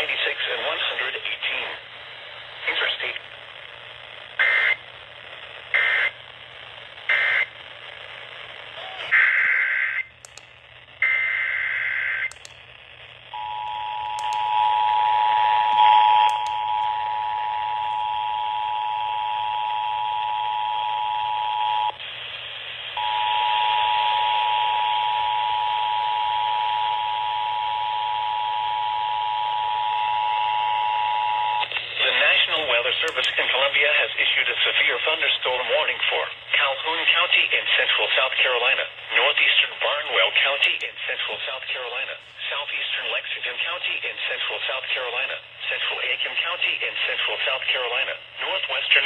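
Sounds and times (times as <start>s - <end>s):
radio static hiss: 0.0s - 49.0s.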